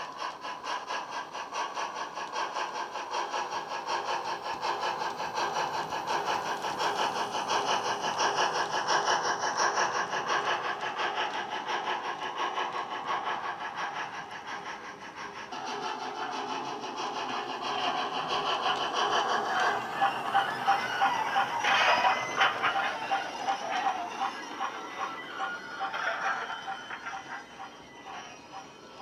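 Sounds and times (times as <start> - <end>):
steam locomotive chuffing: 0.0 - 29.0.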